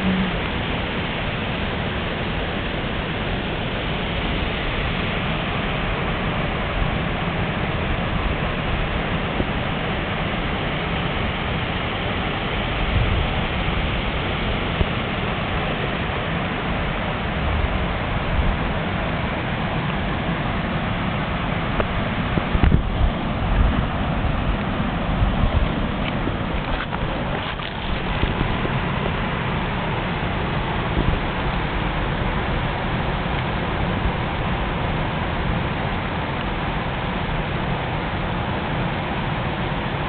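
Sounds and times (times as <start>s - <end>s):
stream rushing over rapids: 0.0s - 40.0s.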